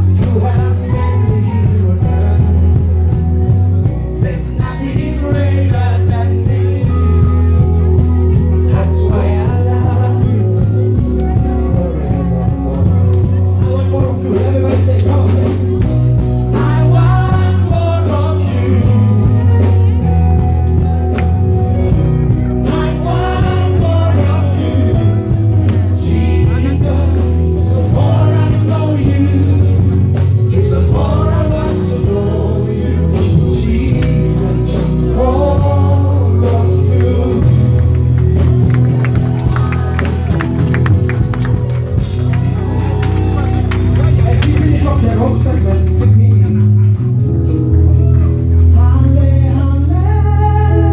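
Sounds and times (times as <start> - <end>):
gospel singing over amplified band: 0.0 - 46.8, 48.6 - 50.9.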